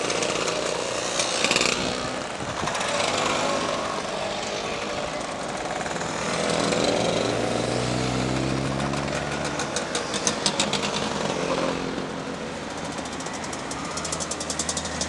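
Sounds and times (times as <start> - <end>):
motorcycle passing: 0.0 - 15.0
scooter popping exhaust: 0.0 - 15.0.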